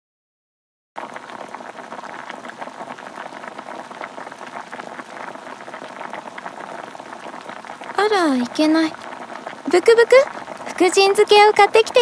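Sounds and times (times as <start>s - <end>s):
curry bubbling in a pot: 1.0s - 12.0s.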